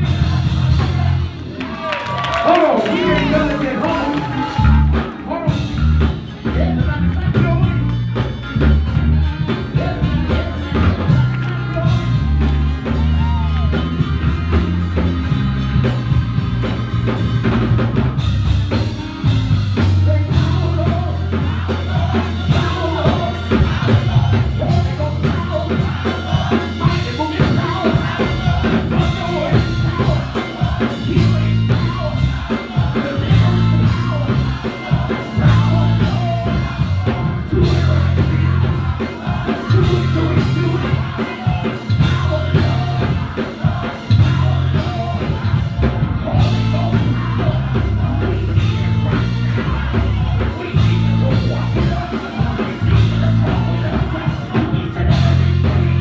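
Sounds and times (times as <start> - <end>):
loud bass notes: 0.0 - 1.7, 2.6 - 56.0
drum kit beat: 0.0 - 56.0
voices singing: 0.0 - 56.0.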